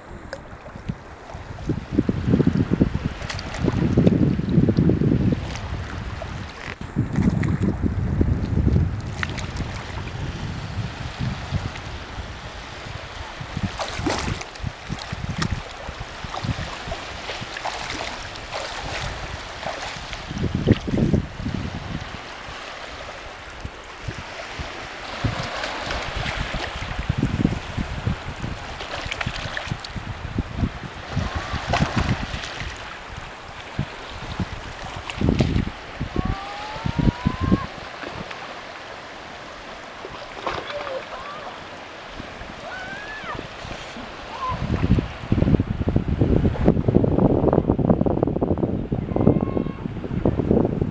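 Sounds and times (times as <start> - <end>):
small waves lapping: 0.0 - 7.8, 8.4 - 45.4
wind on microphone: 0.0 - 50.9.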